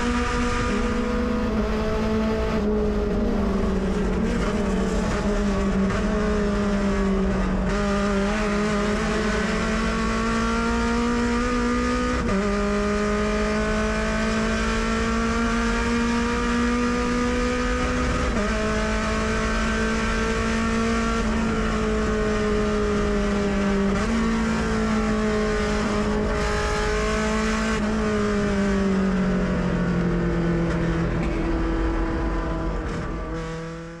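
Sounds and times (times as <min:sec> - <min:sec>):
race car engine: 0:00.0 - 0:34.0
road and tyre noise: 0:00.0 - 0:34.0.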